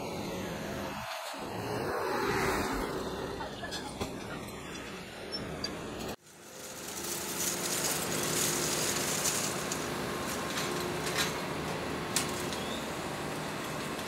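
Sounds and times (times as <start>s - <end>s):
heavy machinery humming: 2.6s - 14.0s.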